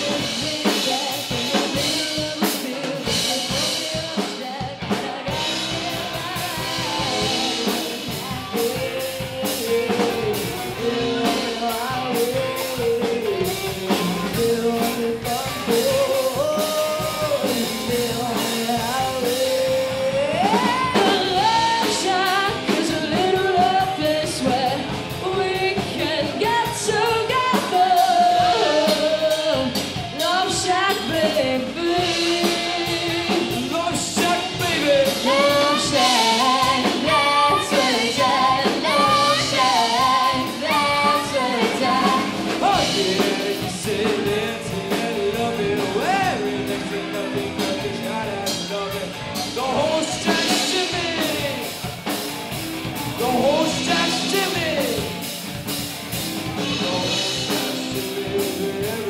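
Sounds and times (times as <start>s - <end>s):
person singing: 0.0s - 52.2s, 53.0s - 55.2s, 56.5s - 59.0s
drum kit: 0.0s - 59.0s
electric guitars: 0.0s - 59.0s.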